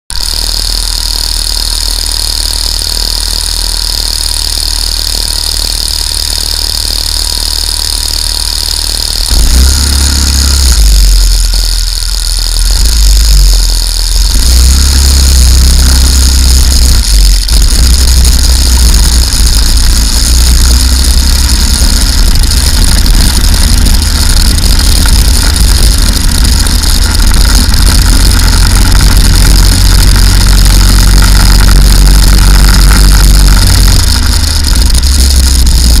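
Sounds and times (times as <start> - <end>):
go-kart engines revving: 0.2 - 36.0.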